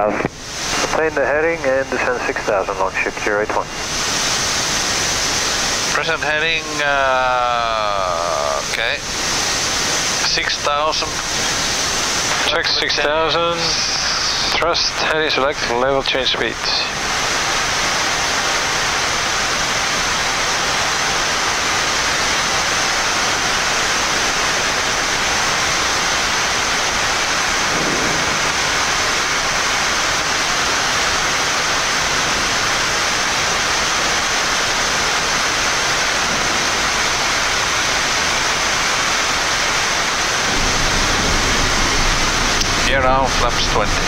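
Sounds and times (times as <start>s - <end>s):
steady rushing air hiss: 0.0s - 44.0s.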